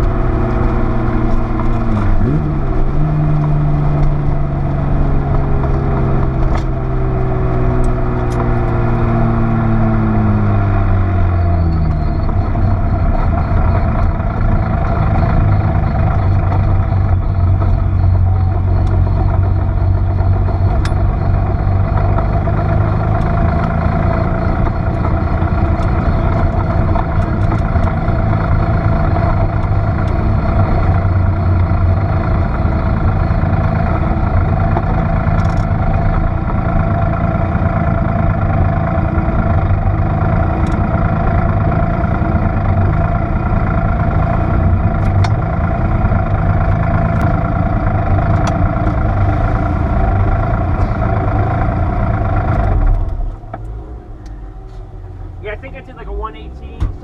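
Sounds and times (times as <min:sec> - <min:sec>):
car engine running steadily: 0:00.0 - 0:57.0.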